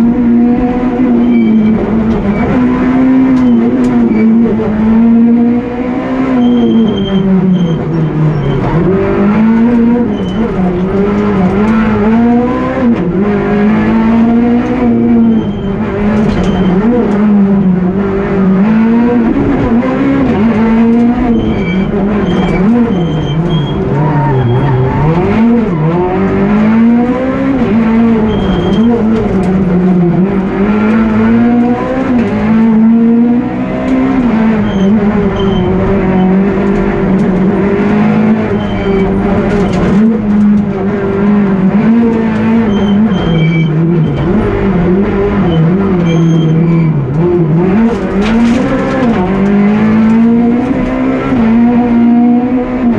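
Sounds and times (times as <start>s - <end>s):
rally car engine revving: 0.0s - 52.9s.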